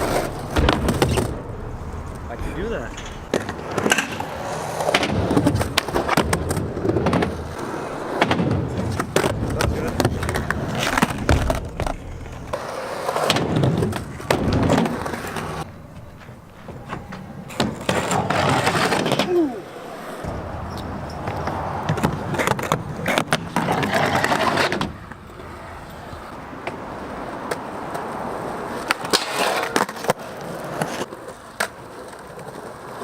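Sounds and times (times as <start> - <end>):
skateboard clacking on ground: 0.0 - 33.0
skateboard wheels rolling: 0.0 - 33.0.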